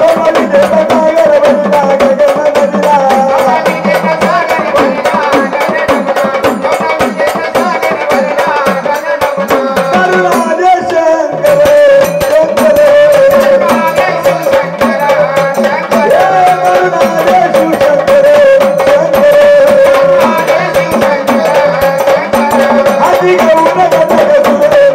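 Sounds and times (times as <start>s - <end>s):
drum and rattle rhythm: 0.0s - 24.9s.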